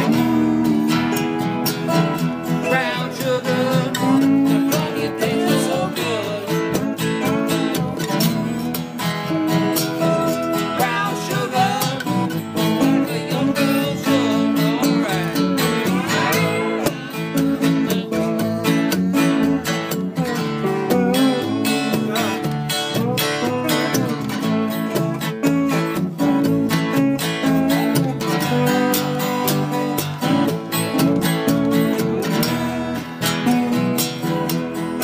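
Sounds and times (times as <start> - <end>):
guitar strummed and picked: 0.0 - 35.0.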